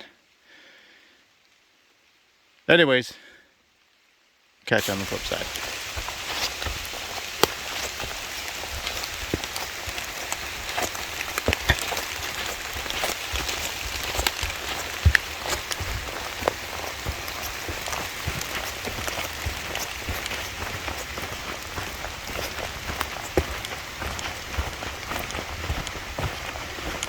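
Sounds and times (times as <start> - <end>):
close raindrops striking: 0.0 - 27.0
steady rain in forest: 0.0 - 27.0.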